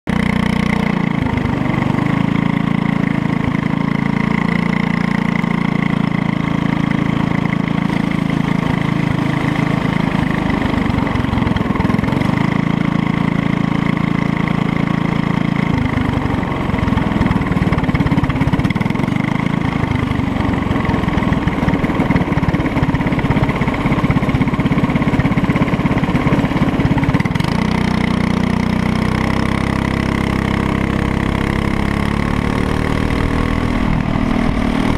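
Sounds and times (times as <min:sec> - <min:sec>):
kart engine running: 0:00.1 - 0:34.9.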